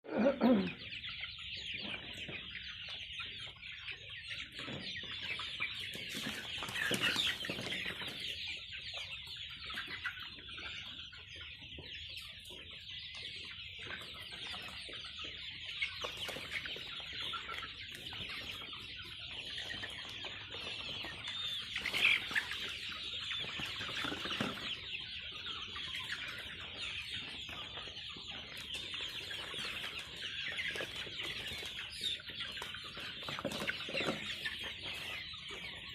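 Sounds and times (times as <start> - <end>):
chickens clucking and peeping: 0.0 - 35.9.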